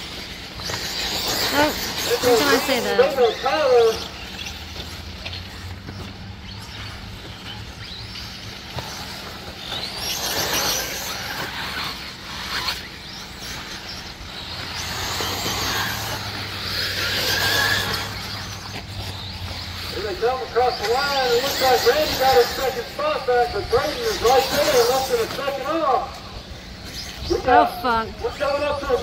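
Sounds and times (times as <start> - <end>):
electric rc car motors whining: 0.0 - 29.0.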